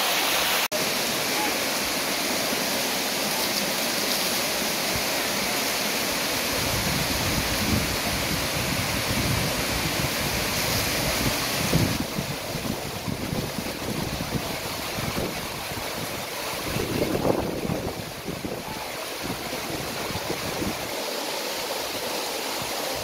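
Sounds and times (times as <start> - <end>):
water rushing over terraces: 0.0 - 23.0.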